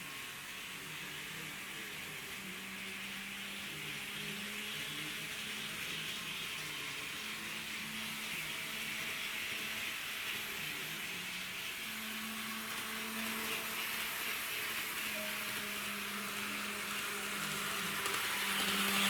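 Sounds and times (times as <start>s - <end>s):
model railcar motor whirring: 0.0s - 19.0s.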